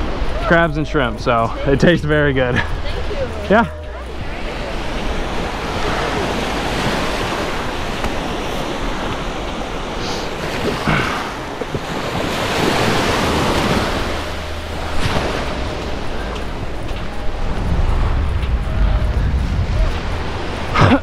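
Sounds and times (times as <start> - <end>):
wind rumbling on microphone: 1.6 - 21.0.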